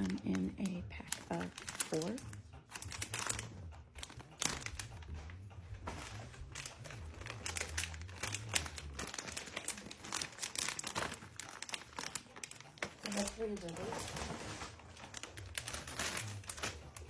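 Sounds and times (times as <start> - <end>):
plastic wrappers crinkling: 0.0 - 17.0.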